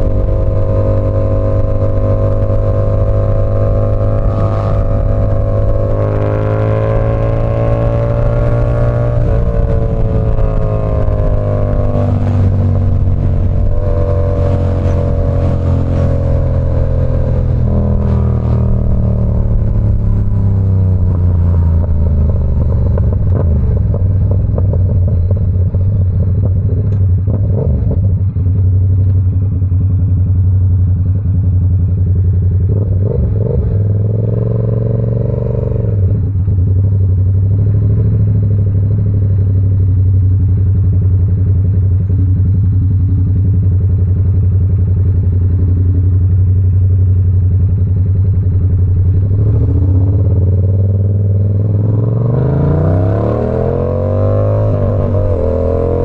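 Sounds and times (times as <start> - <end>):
motorcycle engine riding steadily: 0.0 - 56.0.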